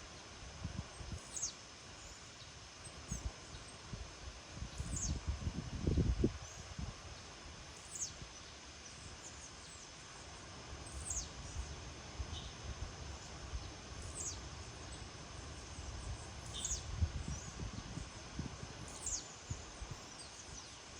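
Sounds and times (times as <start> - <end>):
steady outdoor hiss: 0.0 - 20.9
faint lower bird chirps: 0.9 - 3.8, 4.6 - 5.3, 5.9 - 18.2, 18.8 - 20.9.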